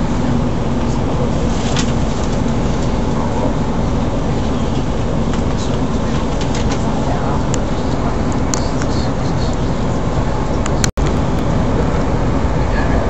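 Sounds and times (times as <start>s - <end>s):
low hum: 0.0s - 13.0s
train rumbling: 0.0s - 13.0s.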